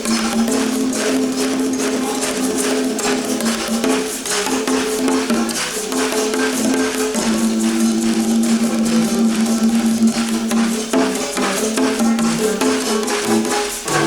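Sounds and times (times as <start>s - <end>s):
steady percussion beat: 0.0s - 14.0s.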